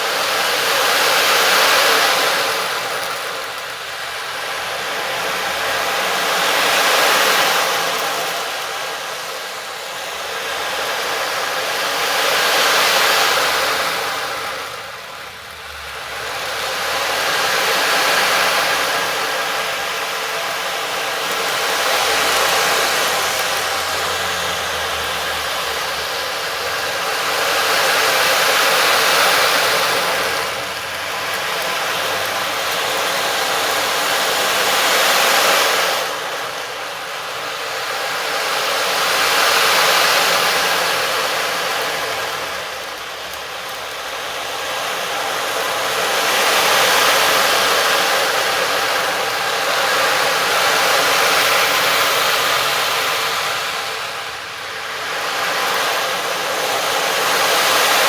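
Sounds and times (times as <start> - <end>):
rushing surf-like hiss: 0.0 - 58.0.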